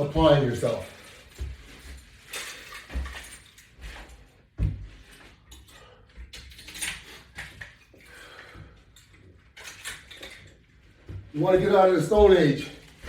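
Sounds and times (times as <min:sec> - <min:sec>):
exercise equipment knocks and clinks: 0:00.0 - 0:13.0.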